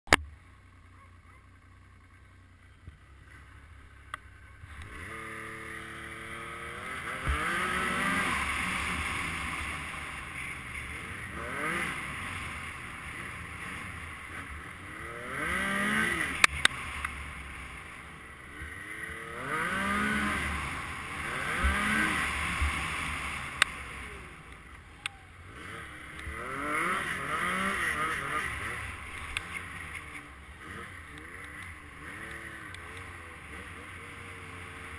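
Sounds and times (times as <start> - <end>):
snowmobile engine revving: 2.6 - 34.9.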